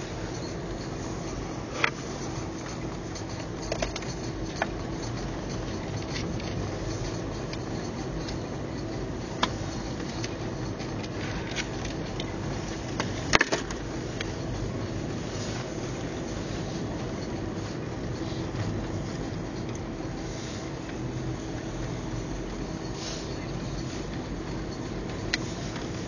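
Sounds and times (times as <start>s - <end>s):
car engine and tyre hum: 0.0s - 26.0s.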